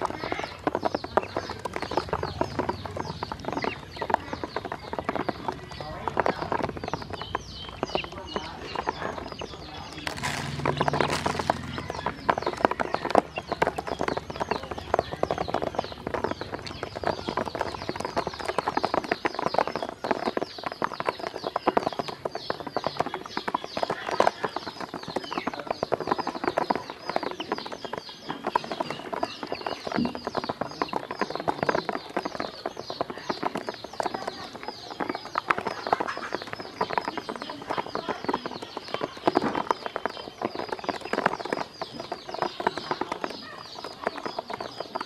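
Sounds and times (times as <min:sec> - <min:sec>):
bills tapping on plastic: 0:00.0 - 0:45.0
ducklings peeping: 0:00.0 - 0:45.0.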